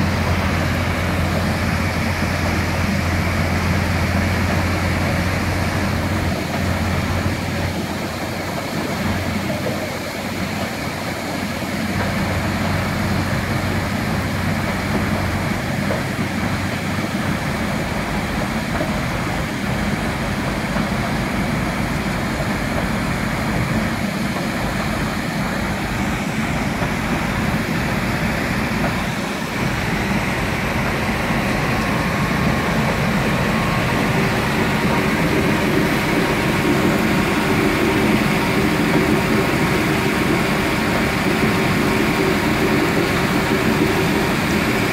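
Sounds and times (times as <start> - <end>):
rotary drum screen rumbling: 0.0 - 44.9
rushing water: 0.0 - 44.9.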